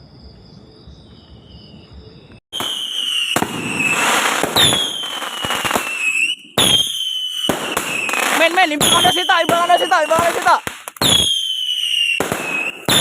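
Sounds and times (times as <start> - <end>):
crickets chirping: 0.0 - 13.0
firework whistles falling in pitch: 2.5 - 13.0
fireworks crackling: 2.5 - 13.0.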